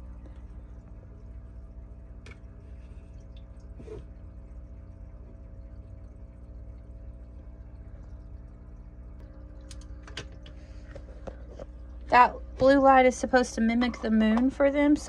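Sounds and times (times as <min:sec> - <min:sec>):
filter low hum: 0:00.0 - 0:15.0
water trickling: 0:00.0 - 0:15.0.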